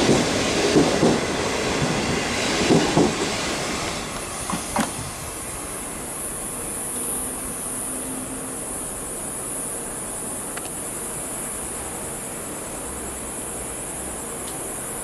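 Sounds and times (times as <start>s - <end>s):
faint low train hum: 0.0s - 15.0s
crickets chirring: 0.1s - 15.0s.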